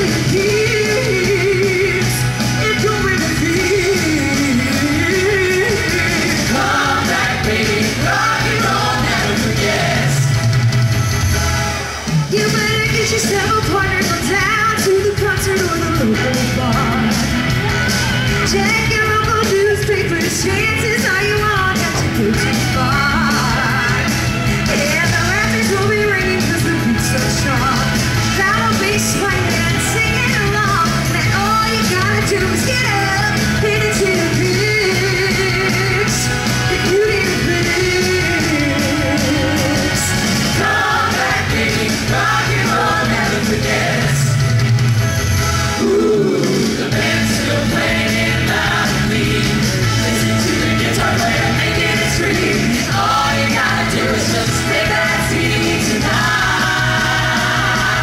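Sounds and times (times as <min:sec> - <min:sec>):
live rock band with singers: 0:00.0 - 0:58.0.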